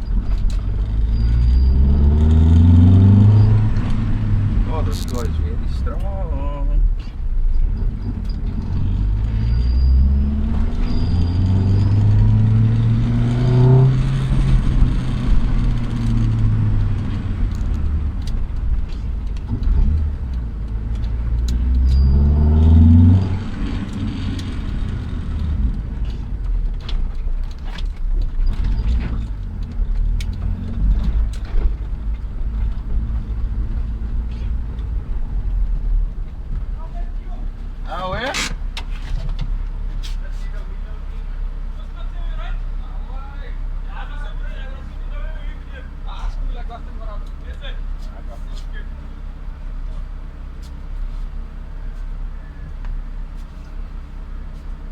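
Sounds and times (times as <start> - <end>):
car engine accelerating hard: 0.0 - 54.9.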